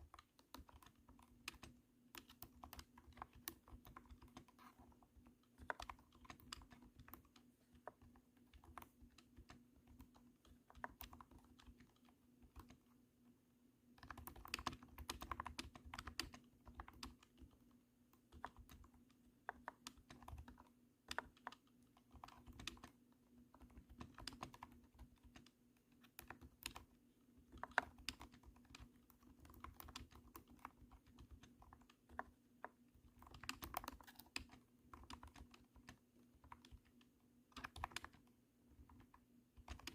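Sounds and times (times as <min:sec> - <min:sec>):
faint steady hum: 0:00.0 - 0:39.9
keyboard typing: 0:00.0 - 0:39.9.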